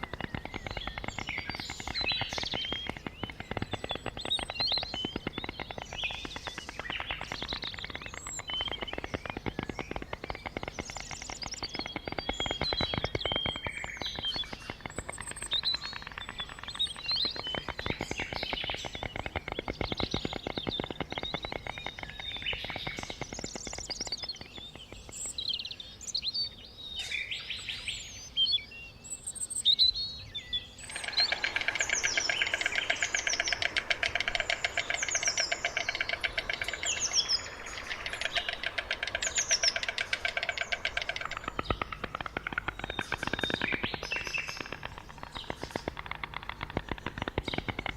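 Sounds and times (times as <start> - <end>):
stork bill-clattering: 0.0 - 25.3, 30.8 - 47.9
small birds chirping: 0.0 - 47.9.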